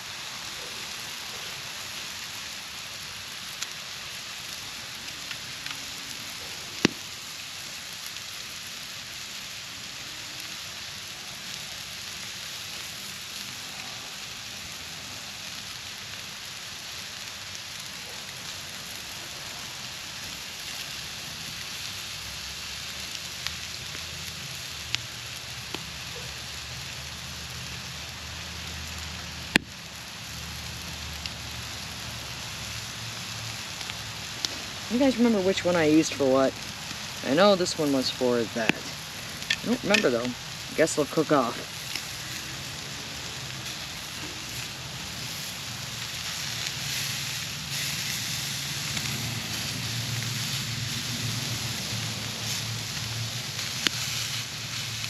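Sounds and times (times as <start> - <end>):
campfire hissing and crackling: 0.0 - 55.0.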